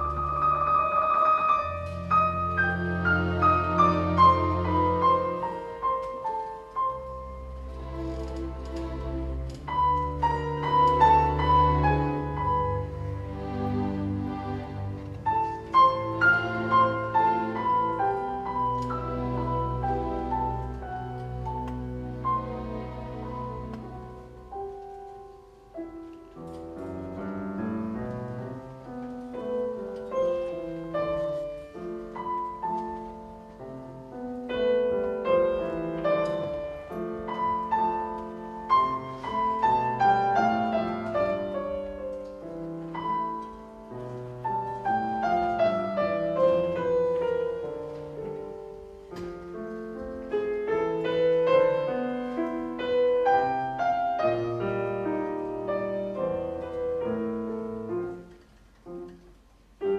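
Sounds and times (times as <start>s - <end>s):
piano: 0.0s - 59.9s
string orchestra: 0.0s - 59.9s.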